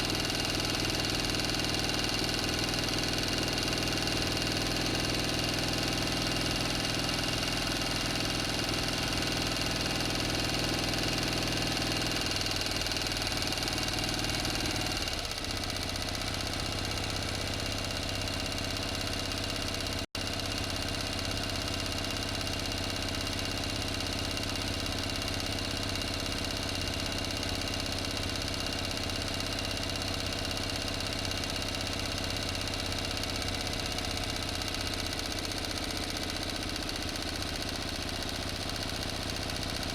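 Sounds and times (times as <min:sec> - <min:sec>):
motor engine idling: 0:00.0 - 0:39.9.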